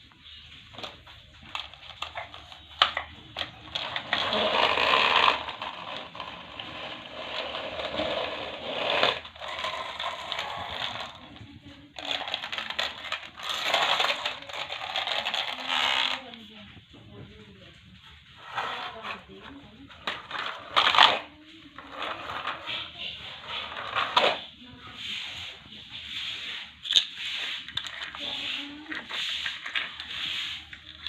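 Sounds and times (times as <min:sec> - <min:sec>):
grinding rustling noise: 0:00.6 - 0:31.0.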